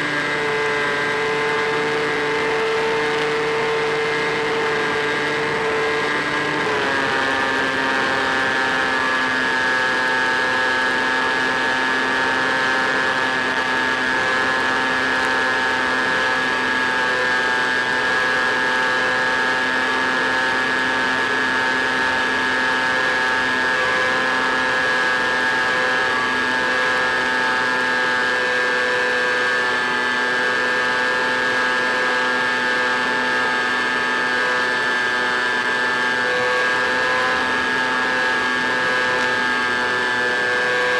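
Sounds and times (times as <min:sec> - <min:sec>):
model plane motor whining: 0:00.0 - 0:40.9.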